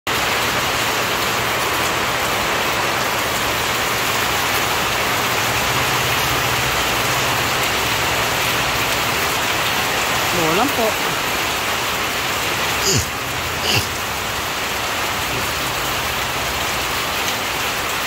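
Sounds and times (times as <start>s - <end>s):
heavy rain falling: 0.1s - 18.0s
water streaming off a roof: 0.1s - 18.0s.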